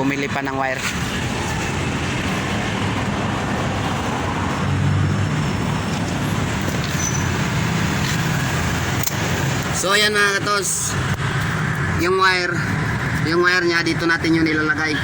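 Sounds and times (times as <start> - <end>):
highway traffic road noise: 0.0 - 15.0.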